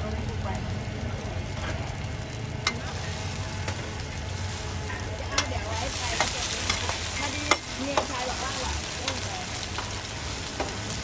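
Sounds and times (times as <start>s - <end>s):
pancakes sizzling in oil: 0.0s - 11.0s.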